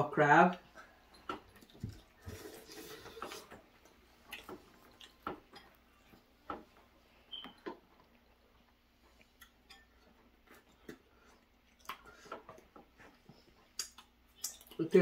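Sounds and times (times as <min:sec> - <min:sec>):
soft chewing: 0:00.7 - 0:14.8.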